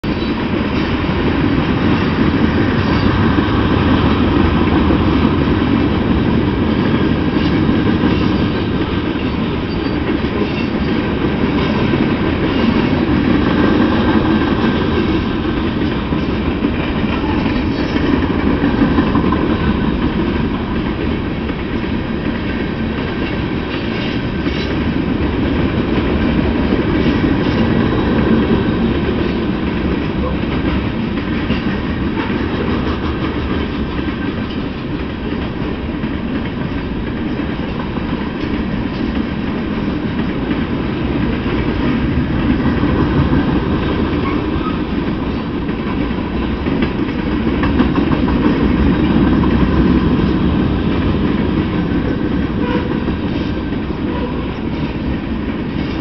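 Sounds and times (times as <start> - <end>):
freight train rumbling past: 0.0 - 56.0
wheels clicking over rail joints: 0.1 - 56.0.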